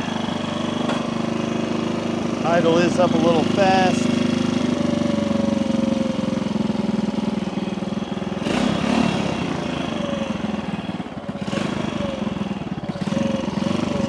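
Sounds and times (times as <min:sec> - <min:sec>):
small motorcycle engine idling: 0:00.0 - 0:14.0.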